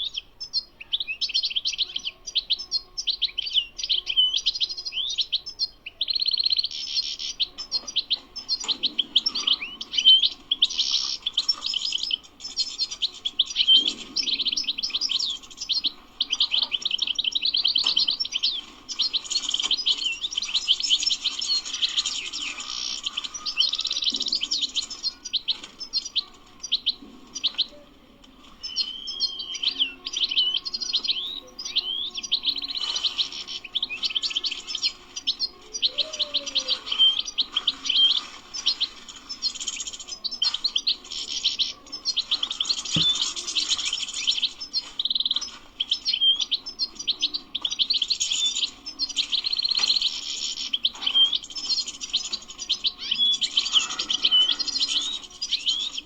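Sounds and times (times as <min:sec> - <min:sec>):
bird twittering song: 0:00.0 - 0:56.0.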